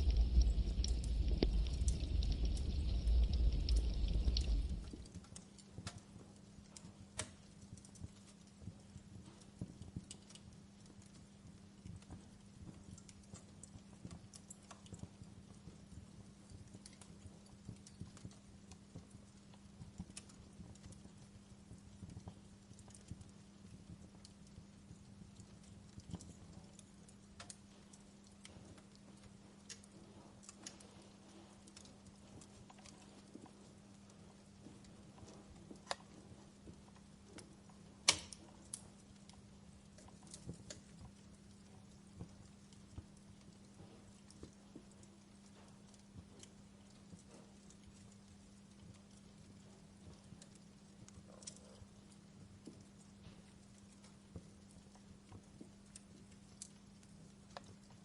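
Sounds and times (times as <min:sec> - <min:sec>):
campfire crackling: 0:00.0 - 0:58.0
low steady hum: 0:00.0 - 0:58.0.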